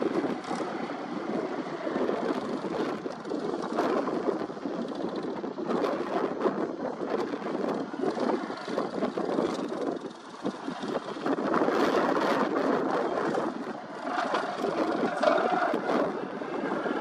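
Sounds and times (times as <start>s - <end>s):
diesel engine: 0.0s - 17.0s.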